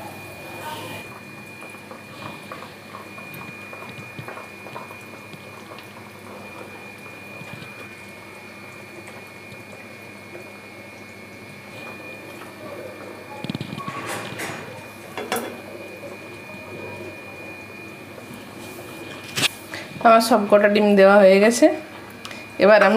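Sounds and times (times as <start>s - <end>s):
curry bubbling and popping: 1.0s - 21.0s.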